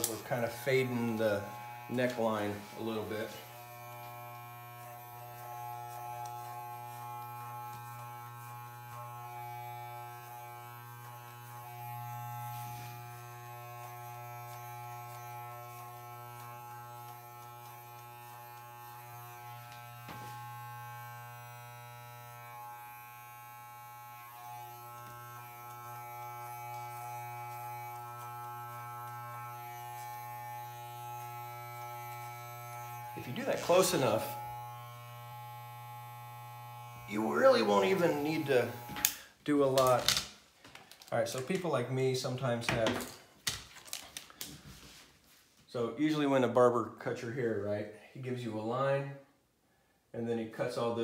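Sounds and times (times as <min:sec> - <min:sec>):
hair clippers buzzing: 0:00.0 - 0:44.6.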